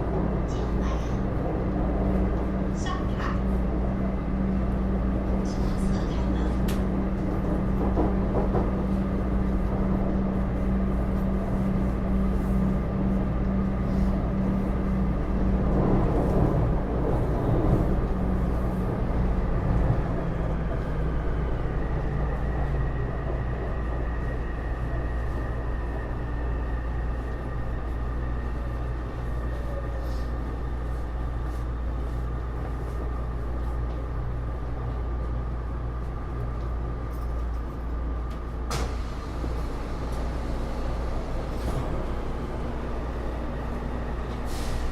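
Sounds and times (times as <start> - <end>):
wheel and rail rumble: 0.0 - 44.9.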